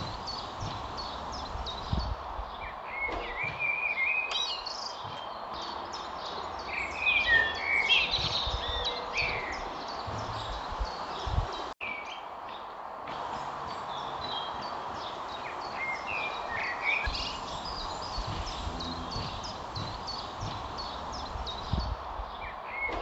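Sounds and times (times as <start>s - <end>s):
background hiss: 0.0s - 23.0s
small birds singing: 0.0s - 23.0s.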